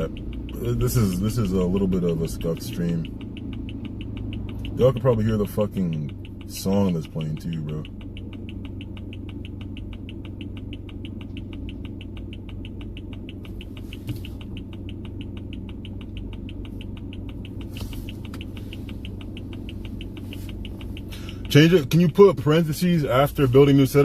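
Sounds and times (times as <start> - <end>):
rapid even ticking: 0.0 - 24.0
steady low hum: 0.0 - 24.0.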